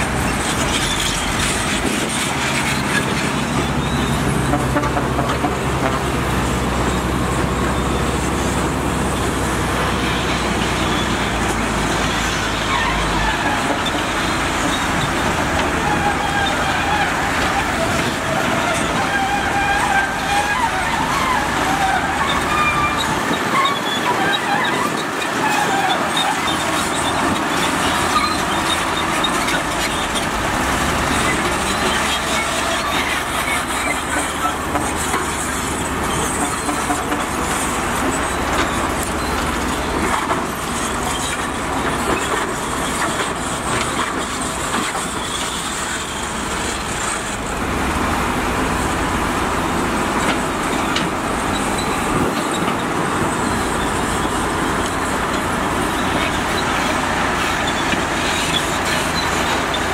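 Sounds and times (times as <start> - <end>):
heavy machinery engine hum: 0.0 - 59.9.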